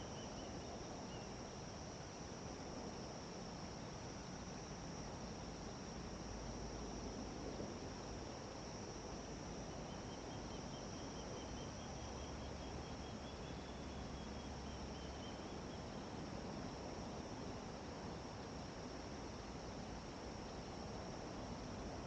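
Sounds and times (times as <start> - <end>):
background hiss: 0.0 - 22.0
insects chorus: 0.0 - 22.0.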